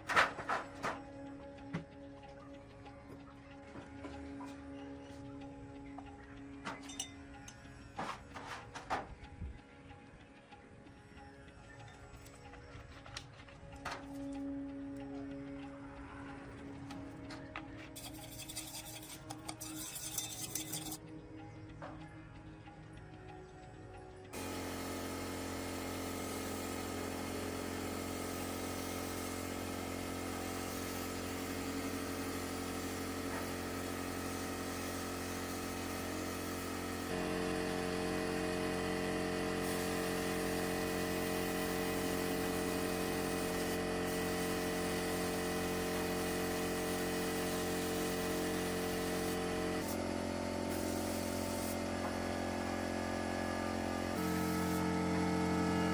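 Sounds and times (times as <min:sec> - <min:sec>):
motor humming: 0:00.0 - 0:55.9.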